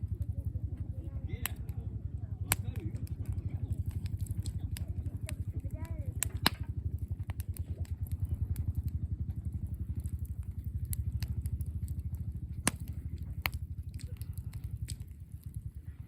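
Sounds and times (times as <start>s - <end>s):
fire pops and snaps: 0.0s - 1.8s, 2.4s - 16.0s
campfire wood crackling: 0.0s - 16.0s
low fast-pulsing rumble: 0.0s - 16.0s.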